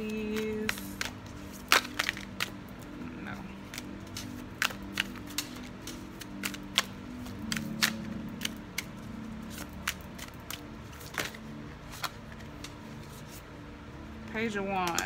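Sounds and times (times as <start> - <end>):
cards being shuffled: 0.0 - 13.5.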